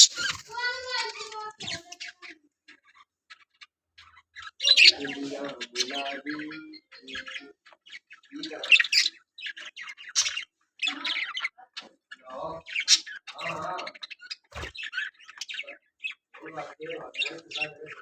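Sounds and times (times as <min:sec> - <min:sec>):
budgerigars chirping and squawking: 0:00.0 - 0:18.0.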